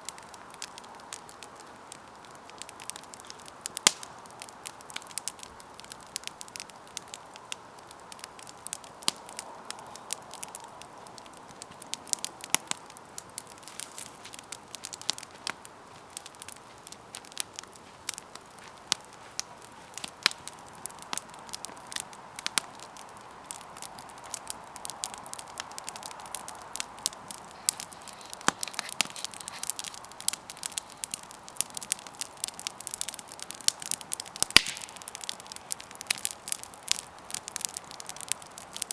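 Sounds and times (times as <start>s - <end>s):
soft hiss of flame: 0.0s - 38.9s
wood crackling and popping: 0.0s - 38.9s.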